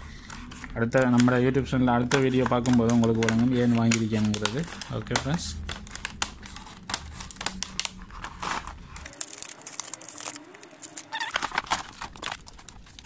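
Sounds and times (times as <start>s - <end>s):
plastic packaging crinkling: 0.1s - 13.0s.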